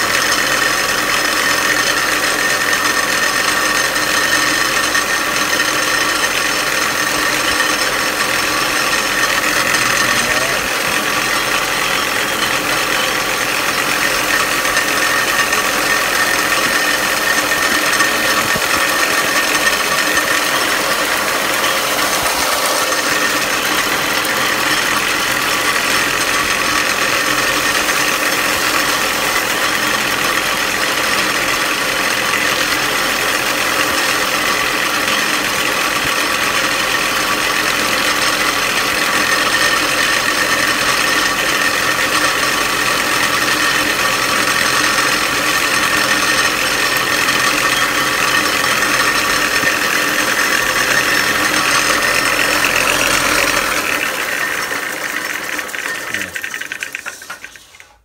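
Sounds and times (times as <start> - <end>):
belt and disc sander running: 0.0 - 58.0.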